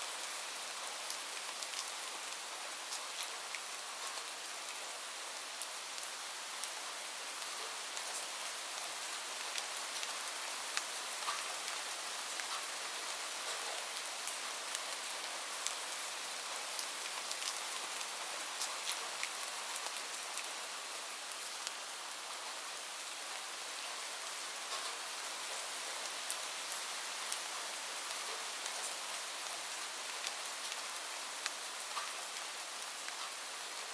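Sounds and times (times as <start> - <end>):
steady rain falling: 0.0 - 33.9
raindrops ticking on a surface: 0.2 - 4.9, 5.6 - 22.7, 23.3 - 33.9.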